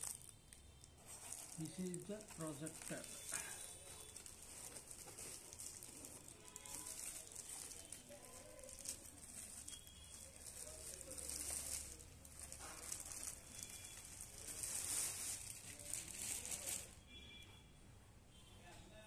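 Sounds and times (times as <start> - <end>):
plastic bag rustling and crinkling: 0.0 - 17.0.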